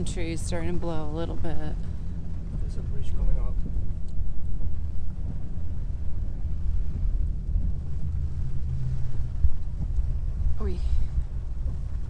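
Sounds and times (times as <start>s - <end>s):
faint hum: 0.0s - 12.0s
road noise: 0.0s - 12.0s
truck engine rumble: 0.0s - 12.0s.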